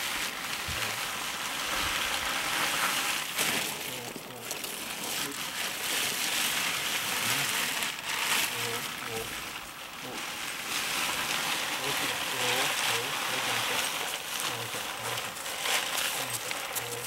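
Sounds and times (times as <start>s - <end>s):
plastic sheet rustling and crinkling: 0.0s - 17.0s.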